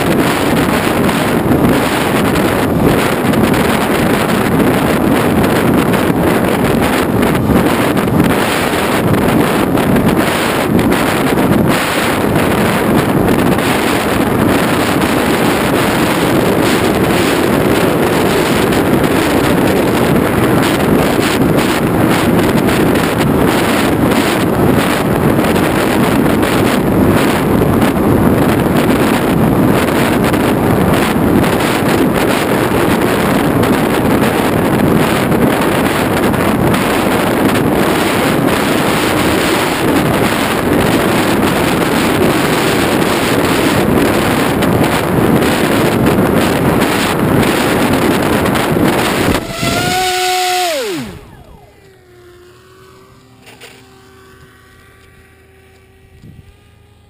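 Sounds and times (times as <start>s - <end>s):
rush of airflow: 0.0s - 53.3s
electric motor and propeller drone: 0.0s - 57.0s.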